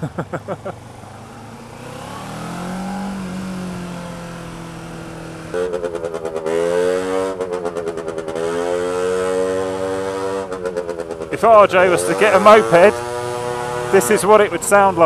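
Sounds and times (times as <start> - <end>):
motorcycle engine running: 0.0 - 15.0
high-pitched moped engine buzzing: 0.1 - 15.0.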